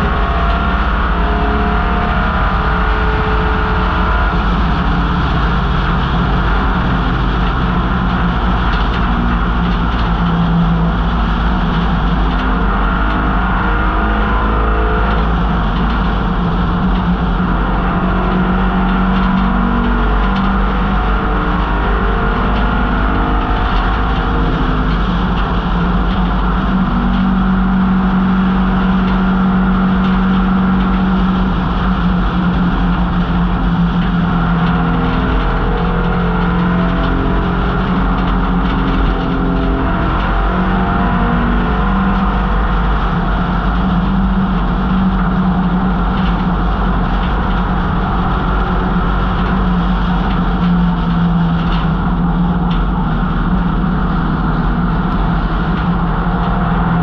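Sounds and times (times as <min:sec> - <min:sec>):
car engine racing: 0:00.0 - 0:57.0.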